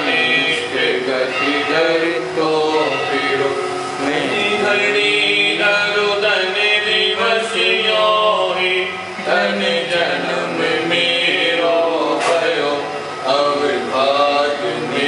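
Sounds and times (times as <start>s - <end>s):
man chanting a hymn: 0.0s - 15.0s
steady low hum: 0.0s - 15.0s.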